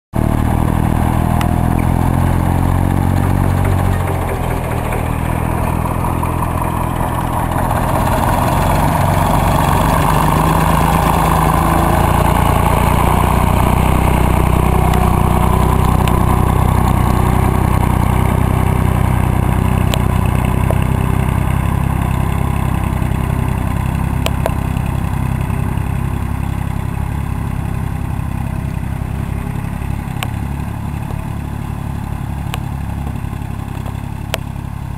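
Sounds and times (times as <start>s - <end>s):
tractor engine running under load: 0.1s - 34.9s.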